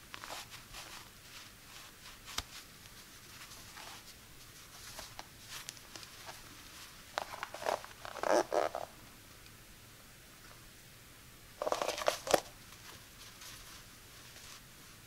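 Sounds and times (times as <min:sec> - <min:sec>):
socks and cardboard rustling: 0:00.0 - 0:08.9, 0:11.6 - 0:15.0
crackly rustling: 0:00.0 - 0:09.0, 0:11.6 - 0:15.0.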